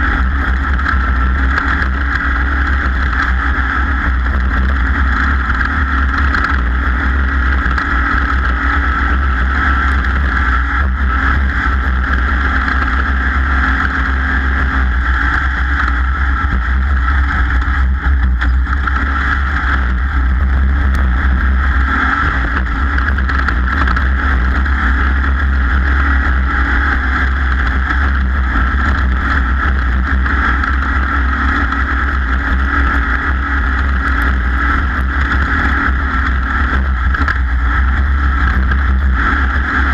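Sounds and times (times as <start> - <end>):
powerboat engine drone: 0.0 - 39.9.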